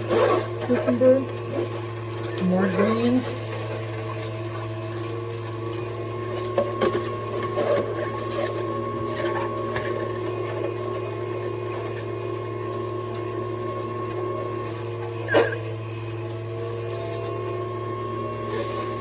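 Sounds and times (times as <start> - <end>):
juicer motor humming: 0.0 - 19.0.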